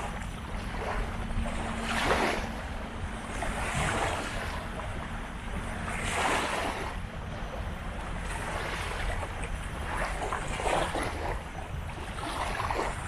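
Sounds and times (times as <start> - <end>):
small waves washing ashore: 0.0 - 13.0
wind rumble on microphone: 0.0 - 13.0.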